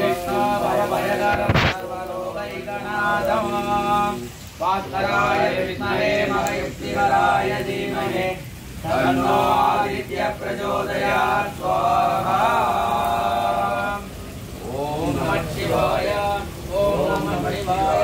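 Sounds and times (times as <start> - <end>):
men chanting mantras: 0.0 - 18.0.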